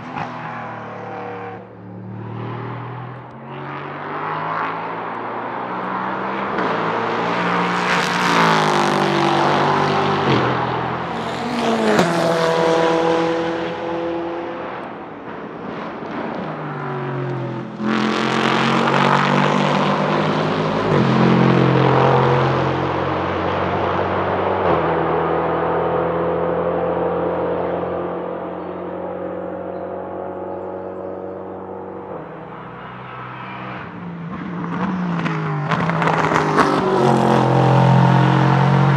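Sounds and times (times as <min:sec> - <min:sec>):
race car engine at full throttle: 0:00.0 - 0:38.9.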